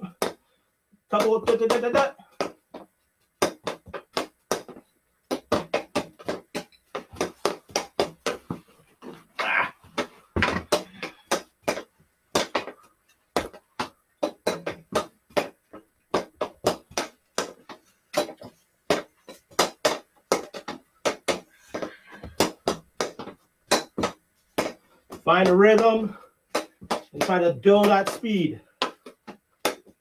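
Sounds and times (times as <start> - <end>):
hockey stick tapping ball: 1.1 - 9.2, 9.9 - 30.0.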